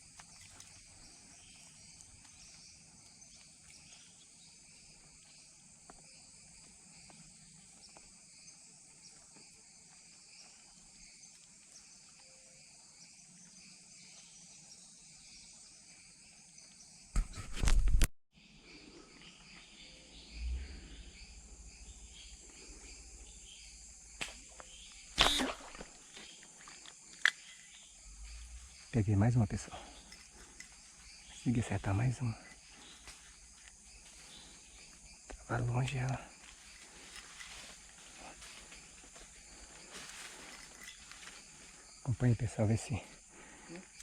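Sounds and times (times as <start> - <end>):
insects buzzing and trilling: 0.0 - 17.8, 18.4 - 44.0.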